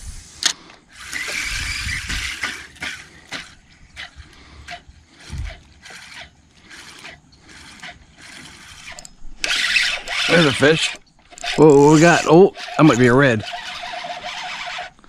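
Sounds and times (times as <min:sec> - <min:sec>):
fishing reel clicking: 0:00.4 - 0:15.0.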